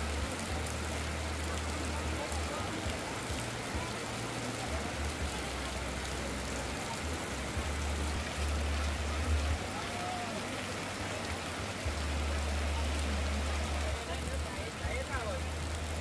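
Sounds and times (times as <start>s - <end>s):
faint indistinct voices: 0.0s - 16.0s
steady rain: 0.0s - 16.0s
water streaming onto ground: 0.0s - 16.0s.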